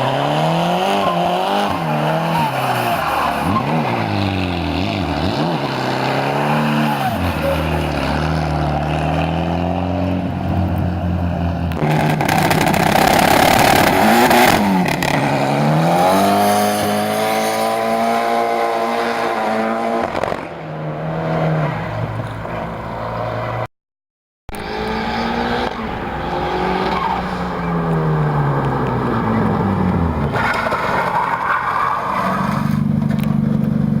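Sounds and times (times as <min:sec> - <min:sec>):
car engine revving through gears: 0:00.0 - 0:23.7, 0:24.5 - 0:33.8.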